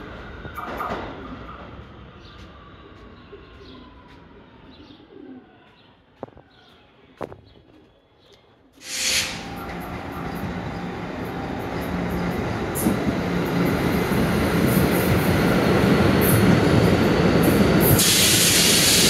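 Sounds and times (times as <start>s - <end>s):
subway train running: 0.0s - 7.2s, 8.8s - 19.0s.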